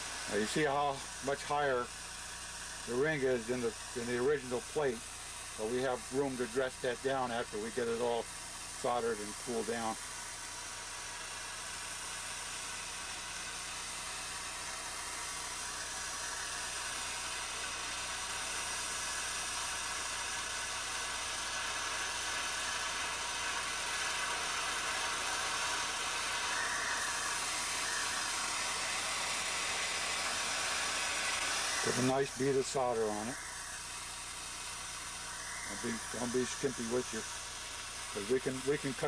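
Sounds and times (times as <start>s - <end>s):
torch flame hissing: 0.0s - 39.0s.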